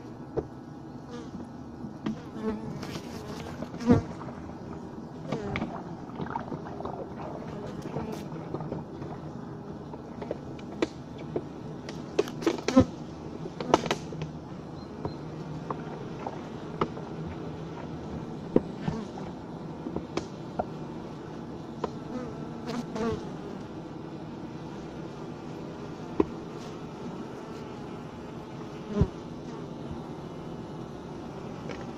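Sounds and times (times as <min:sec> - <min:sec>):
bees humming: 0:00.0 - 0:31.9.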